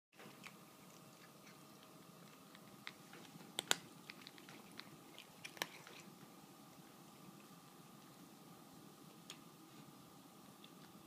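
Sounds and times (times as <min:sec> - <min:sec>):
cats chewing dry kibble: 0:00.2 - 0:11.0.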